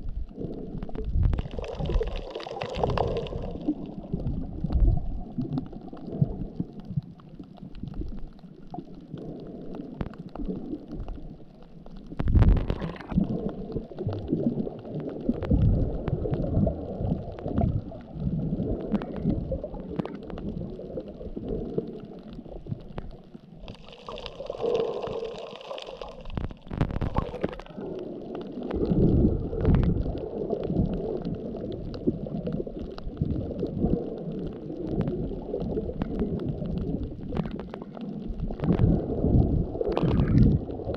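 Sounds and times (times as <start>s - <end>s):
underwater rumbling and gurgling: 0.0s - 40.9s.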